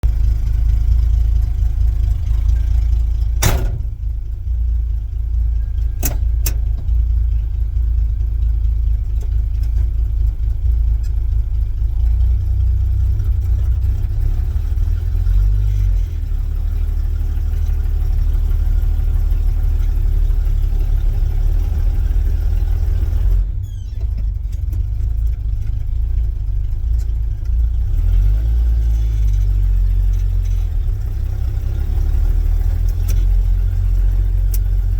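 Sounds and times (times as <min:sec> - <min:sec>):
truck engine rumbling: 0:00.0 - 0:34.9.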